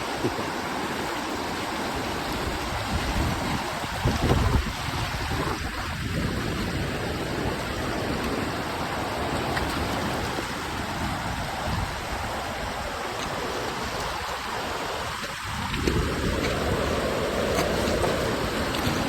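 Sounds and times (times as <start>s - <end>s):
whitewater rapids roaring: 0.0s - 19.0s.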